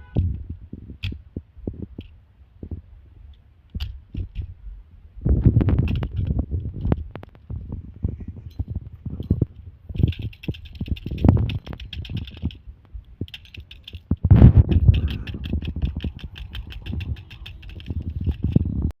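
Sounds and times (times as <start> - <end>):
low irregular thumps: 0.0 - 19.0.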